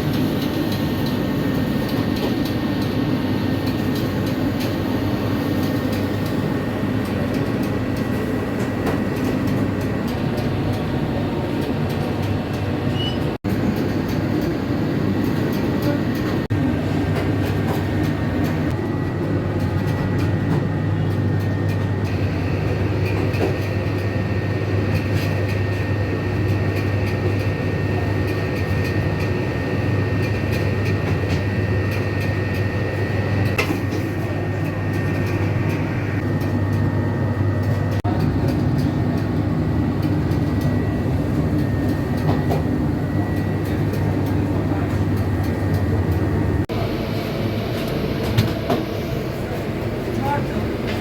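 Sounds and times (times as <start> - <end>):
machinery low hum: 0.0 - 51.0.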